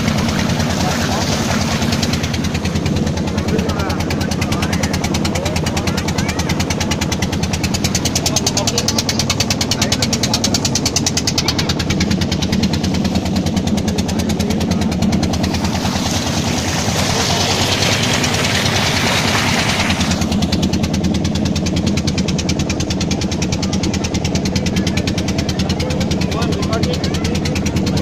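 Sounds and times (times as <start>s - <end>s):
boat engine chugging: 0.0s - 28.0s
water splashing along hull: 0.0s - 28.0s.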